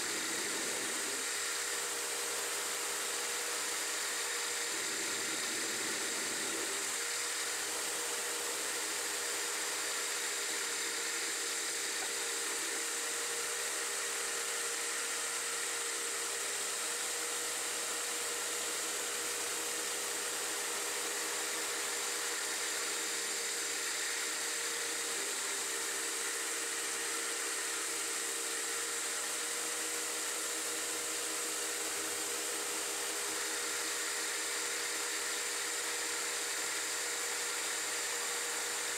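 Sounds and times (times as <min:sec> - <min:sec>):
metal lathe cutting: 0:00.0 - 0:38.9.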